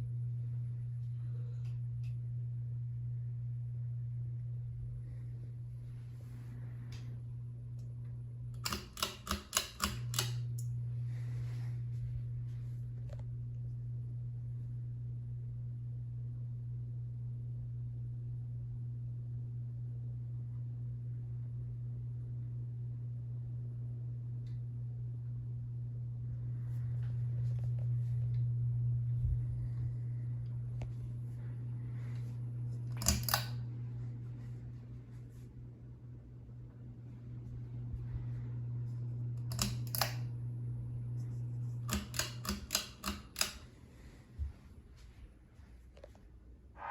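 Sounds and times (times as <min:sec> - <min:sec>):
ceiling fan motor humming: 0:00.0 - 0:46.9.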